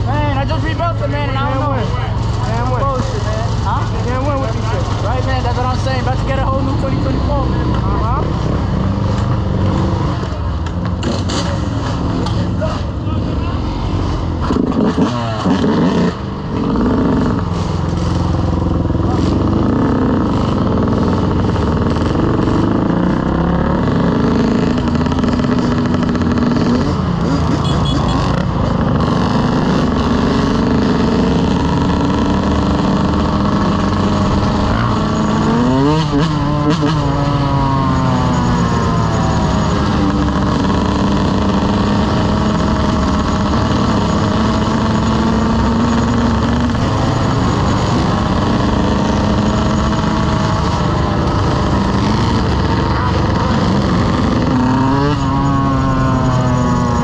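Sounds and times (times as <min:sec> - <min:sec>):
motorcycle engine revving: 0:00.0 - 0:57.0
motorcycle engine running: 0:00.0 - 0:57.0.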